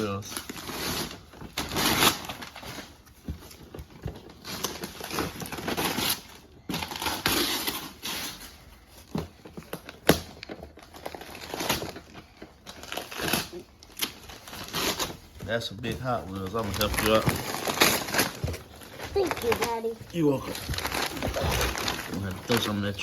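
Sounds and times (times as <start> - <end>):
wrapping paper rustling and tearing: 0.0 - 23.0.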